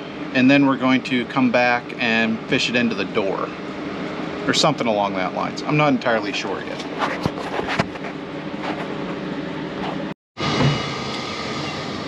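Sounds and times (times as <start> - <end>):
mechanical hum and rumble: 0.0 - 12.0.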